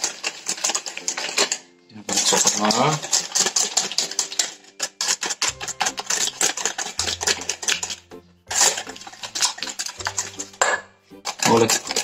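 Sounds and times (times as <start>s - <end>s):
whisk clinking in metal bowl: 0.0s - 12.0s.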